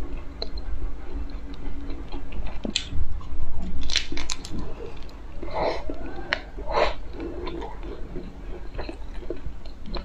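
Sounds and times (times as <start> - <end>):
chewing with wet mouth clicks: 0.0 - 10.0.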